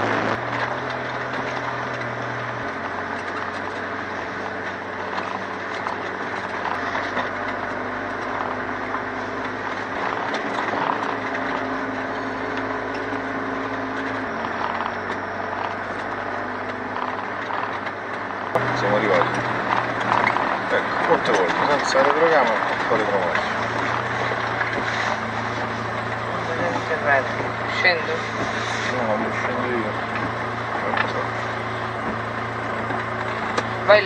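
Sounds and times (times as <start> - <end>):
road noise: 0.0 - 34.0
van engine running: 0.0 - 34.0
small rattles: 0.5 - 34.0.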